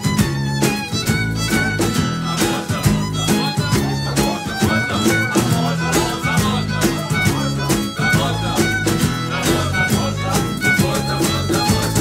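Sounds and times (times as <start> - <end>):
bass: 0.0 - 12.0
hand-drum beat: 0.0 - 12.0
strummed acoustic guitars: 0.0 - 12.0
violin melody: 0.0 - 12.0.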